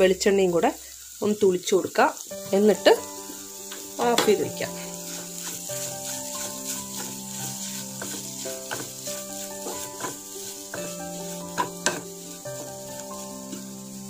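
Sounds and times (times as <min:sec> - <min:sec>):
light oil sizzle: 0:00.0 - 0:14.0
wooden spatula scraping a pan: 0:02.2 - 0:14.0.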